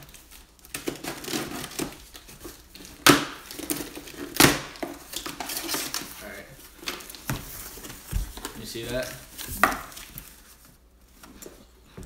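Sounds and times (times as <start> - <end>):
cardboard ripping: 0.0 - 10.6.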